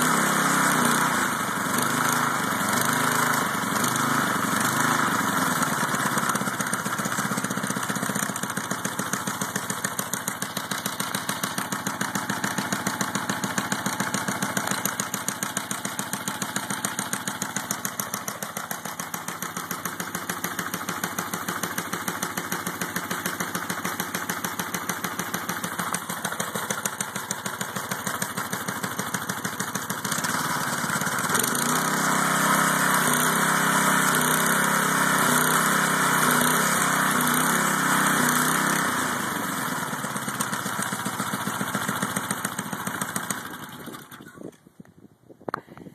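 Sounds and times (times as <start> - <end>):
small engine running: 0.0 - 44.7.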